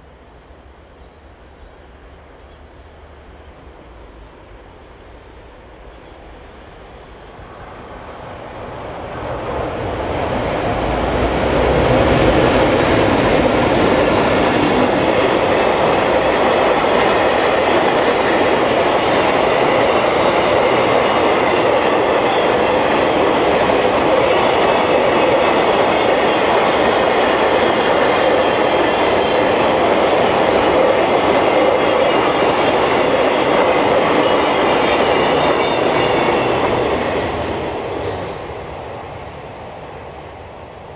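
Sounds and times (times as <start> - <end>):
freight train passing: 0.0 - 40.9.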